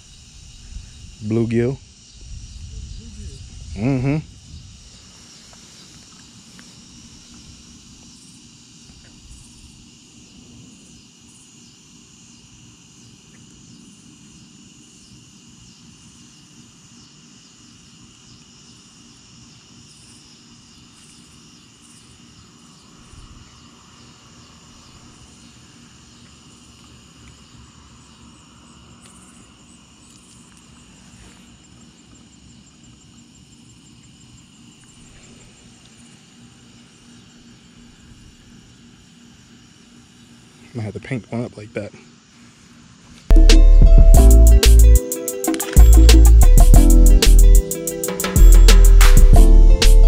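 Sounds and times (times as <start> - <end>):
crickets and insects chorus: 0.0 - 50.0.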